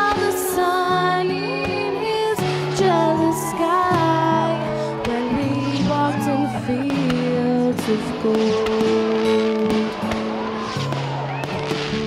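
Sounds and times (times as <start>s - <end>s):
woman singing into a microphone: 0.0s - 10.4s.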